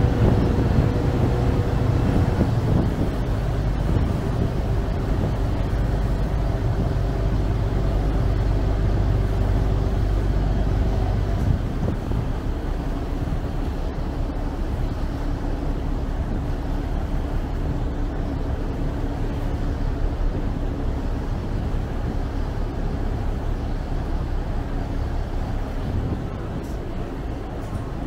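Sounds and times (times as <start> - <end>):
boat engine droning: 0.0 - 28.0
water rushing along hull: 0.0 - 28.0.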